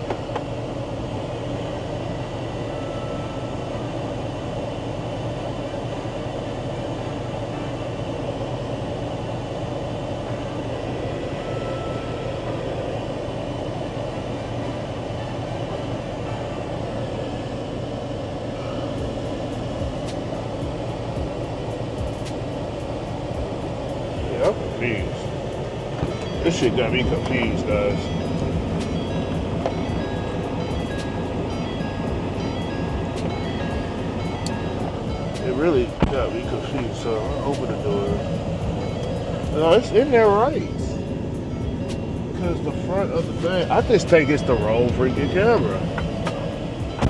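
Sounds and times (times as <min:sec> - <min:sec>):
pickup truck idling: 0:00.0 - 0:47.0.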